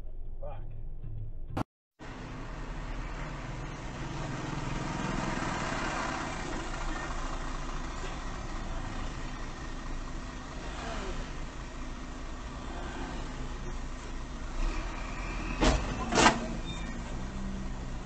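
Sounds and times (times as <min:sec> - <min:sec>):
car engine idling: 0:02.0 - 0:18.0
vehicles passing: 0:02.0 - 0:18.0.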